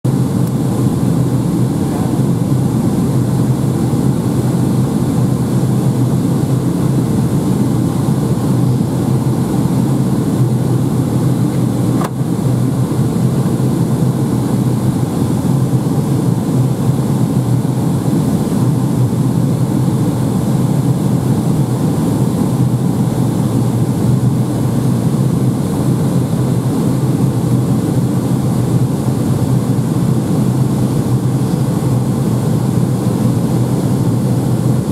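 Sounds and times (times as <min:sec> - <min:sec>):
airplane cabin engine roar: 0:00.0 - 0:34.9
constant low hum: 0:00.1 - 0:34.9.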